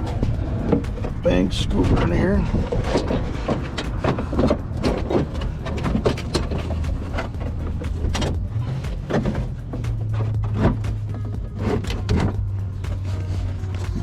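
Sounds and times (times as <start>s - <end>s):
steady low hum: 0.0s - 14.0s
plastic knocks and scrapes: 1.8s - 14.0s.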